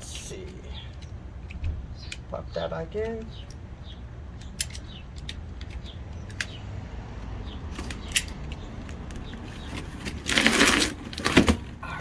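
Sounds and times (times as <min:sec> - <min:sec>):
brake rotors and cardboard handled: 0:00.0 - 0:12.0.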